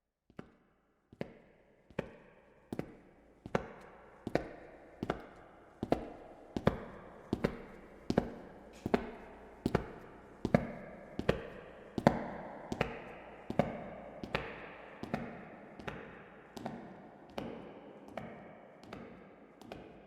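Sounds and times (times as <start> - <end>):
footsteps with sharp echoing clicks: 0.3 - 20.0.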